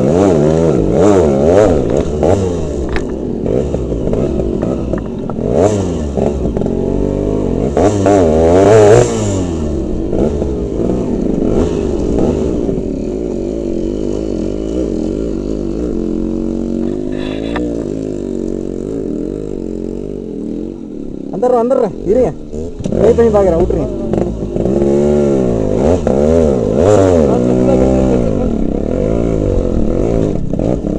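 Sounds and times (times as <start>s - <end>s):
motorcycle engines revving: 0.0s - 30.9s.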